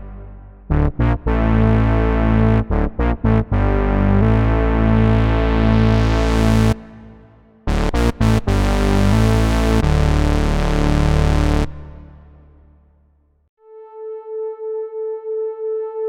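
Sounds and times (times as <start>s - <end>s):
synthesizer chords: 0.0s - 12.9s.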